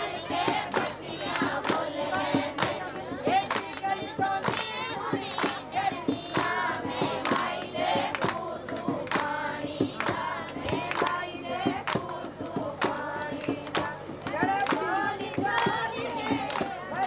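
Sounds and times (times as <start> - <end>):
hand claps: 0.0 - 17.0
women singing together: 0.0 - 17.0.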